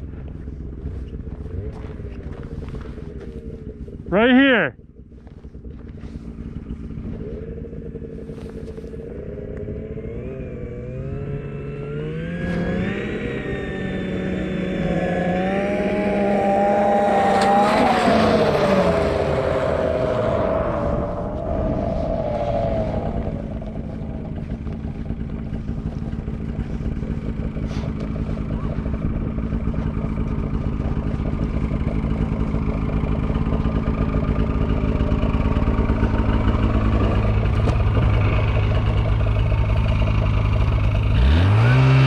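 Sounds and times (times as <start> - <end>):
snowmobile engine: 0.0 - 42.0.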